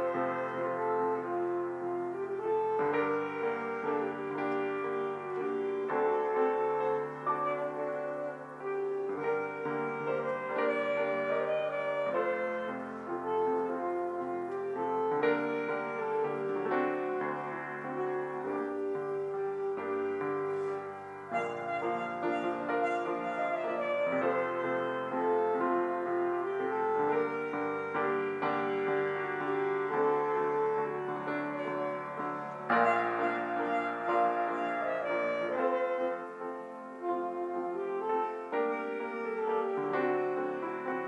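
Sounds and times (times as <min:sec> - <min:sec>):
slow keyboard music: 0:00.0 - 0:41.0.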